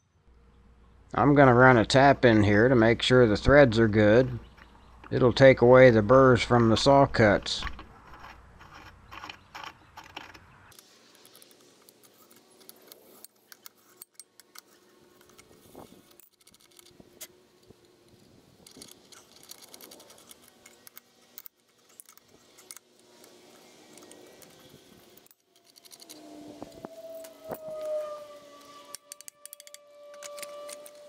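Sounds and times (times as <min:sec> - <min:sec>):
metal scraping: 0:01.6 - 0:31.0.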